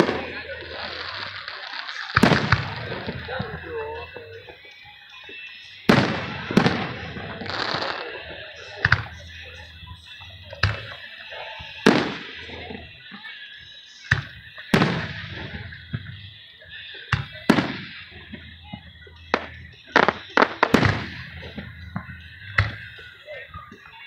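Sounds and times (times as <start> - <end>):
firework bangs echoing: 0.0 - 3.8, 4.4 - 9.4, 10.6 - 13.2, 14.1 - 23.2
firework hiss: 0.0 - 24.0.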